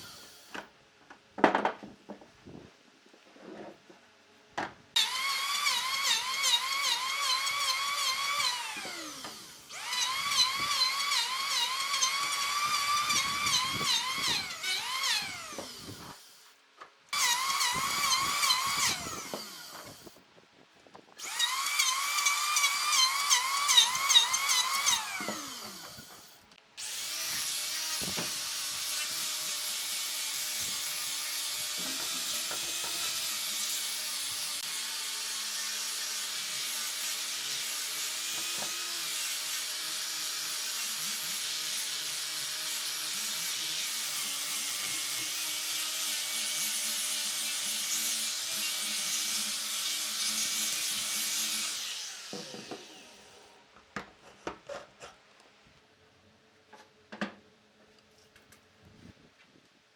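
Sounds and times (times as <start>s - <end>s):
power tool whining through wood: 0.0s - 0.7s, 5.0s - 20.2s, 21.2s - 53.6s.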